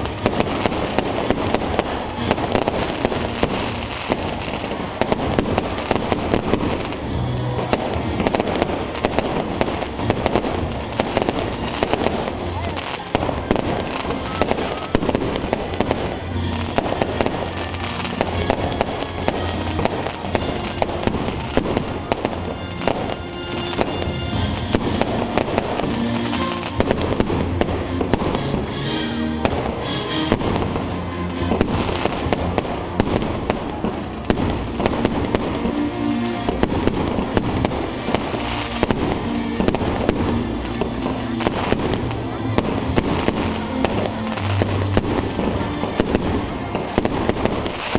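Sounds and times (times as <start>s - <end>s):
fireworks bangs and crackles: 0.0s - 47.9s
music: 0.0s - 47.9s.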